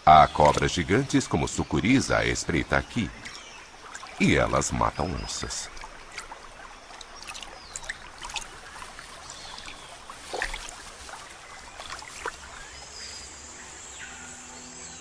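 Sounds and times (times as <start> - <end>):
water sloshing: 0.0 - 13.8
water splashing and trickling: 0.0 - 15.0.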